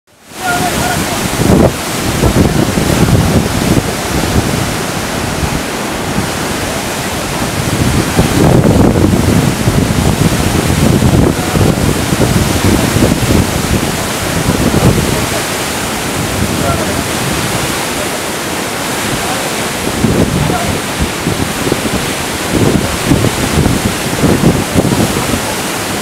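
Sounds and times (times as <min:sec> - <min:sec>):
waterfall rushing: 0:00.1 - 0:26.0
wind buffeting microphone: 0:00.4 - 0:26.0.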